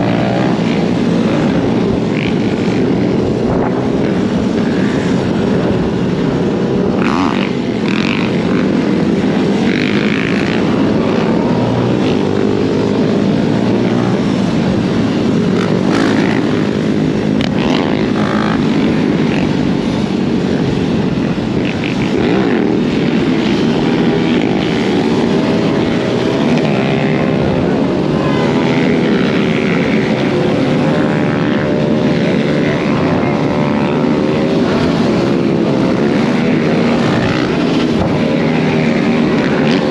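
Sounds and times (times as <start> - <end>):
dirt bike motor running: 0.0 - 39.9
wind rushing over microphone: 0.0 - 39.9.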